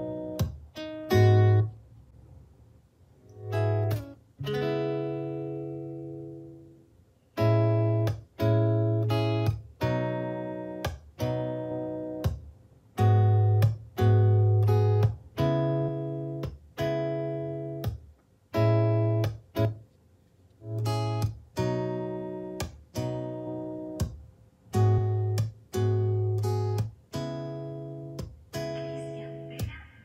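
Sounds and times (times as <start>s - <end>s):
plucked guitar notes: 0.0s - 1.8s, 3.3s - 6.8s, 7.4s - 12.4s, 13.0s - 18.0s, 18.6s - 19.8s, 20.6s - 29.9s.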